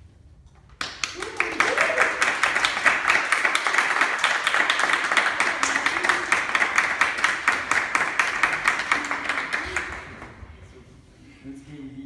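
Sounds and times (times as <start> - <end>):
people applauding: 0.8 - 10.5.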